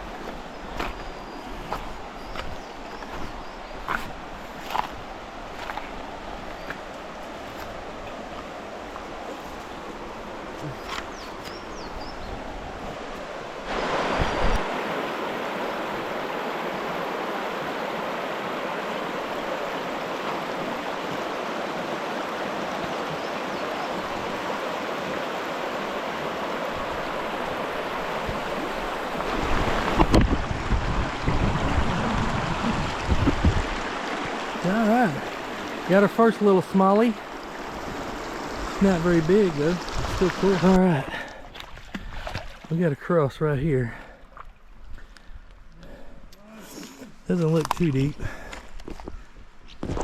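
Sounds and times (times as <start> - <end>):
creek water rushing: 0.0 - 50.0.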